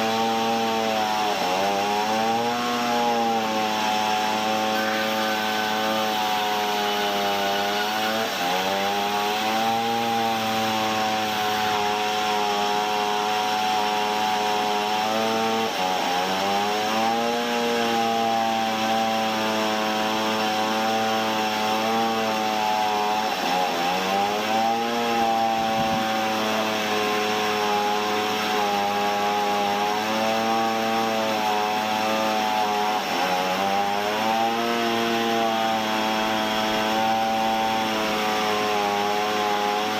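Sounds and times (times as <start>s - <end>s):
sawmill saw engine running: 0.0s - 39.9s.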